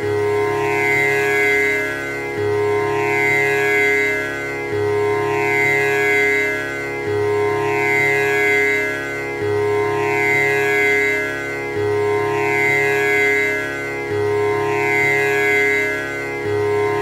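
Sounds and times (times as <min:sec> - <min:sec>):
tanpura drone: 0:00.0 - 0:17.0.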